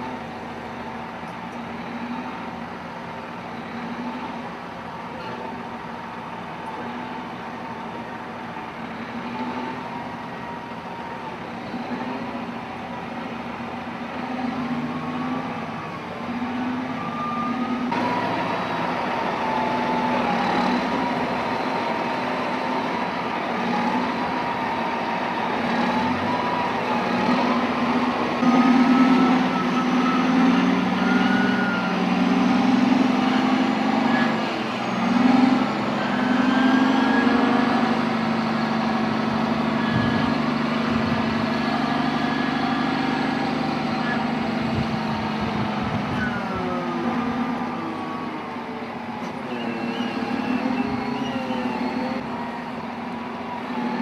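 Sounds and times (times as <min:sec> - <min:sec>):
diesel machinery engine: 0:00.0 - 0:54.0.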